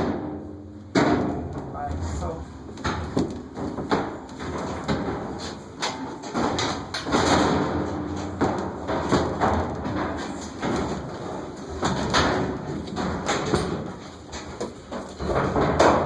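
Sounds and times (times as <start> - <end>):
knocks and thuds: 0.0 - 16.0.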